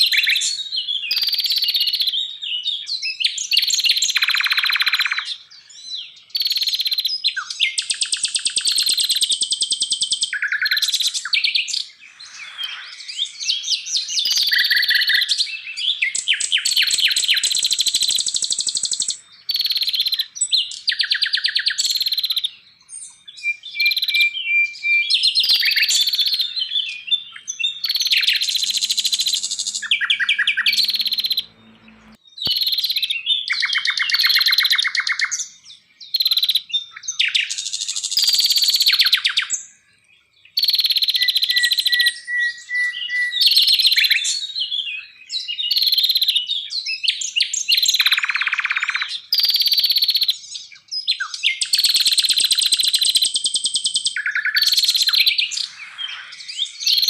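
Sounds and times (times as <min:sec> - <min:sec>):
songbird trills and whistles: 0:00.0 - 0:57.0.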